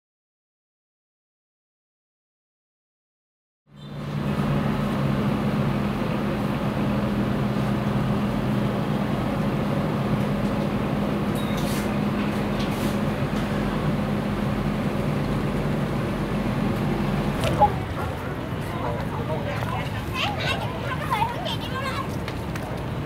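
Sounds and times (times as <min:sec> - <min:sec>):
motorboat engines droning: 0:03.8 - 0:23.0.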